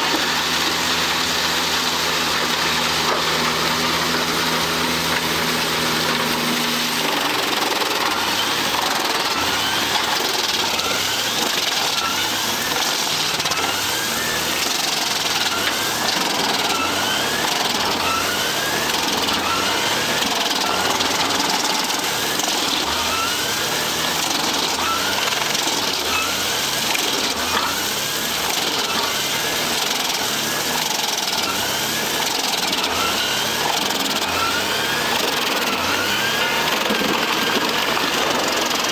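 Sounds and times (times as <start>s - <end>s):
wood chipper shredding trunks: 0.0s - 38.9s.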